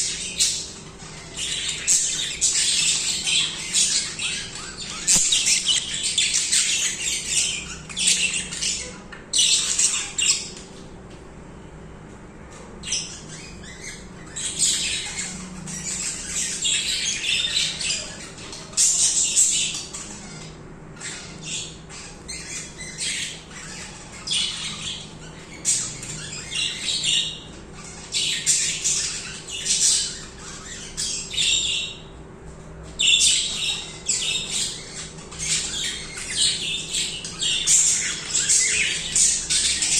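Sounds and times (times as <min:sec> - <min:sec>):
budgerigars chattering and warbling: 0:00.0 - 0:10.9, 0:12.6 - 0:39.9.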